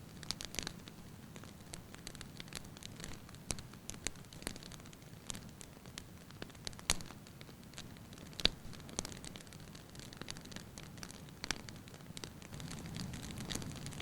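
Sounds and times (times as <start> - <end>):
fire crackling and popping: 0.0 - 14.0
hiss of flames: 0.1 - 14.0.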